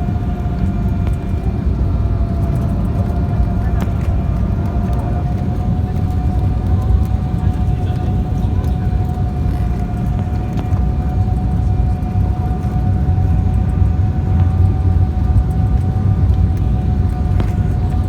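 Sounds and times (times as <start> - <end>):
jet engine rumble: 0.0 - 18.0
jet engine whine: 0.0 - 18.0.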